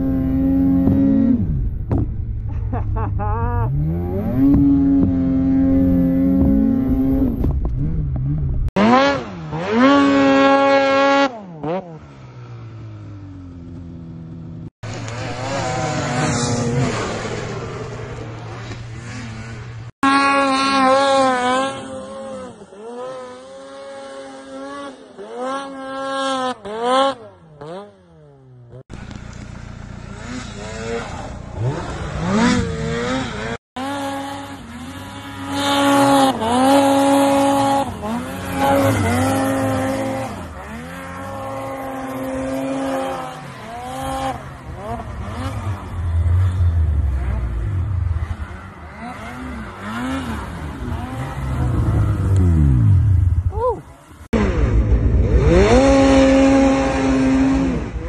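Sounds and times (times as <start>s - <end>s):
snowmobile engines revving: 0.0s - 1.8s, 2.4s - 58.0s.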